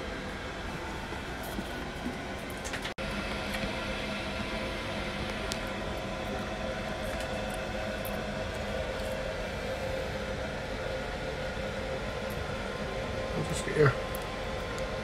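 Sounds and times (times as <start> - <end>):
appliance fan whirring: 0.0 - 15.0.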